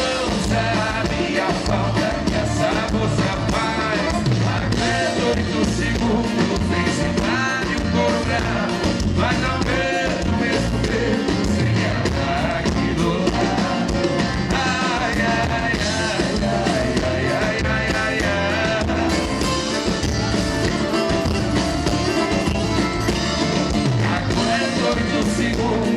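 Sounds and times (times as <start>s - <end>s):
male duo singing: 0.0s - 19.8s, 23.9s - 25.9s
full band playing: 0.0s - 25.9s.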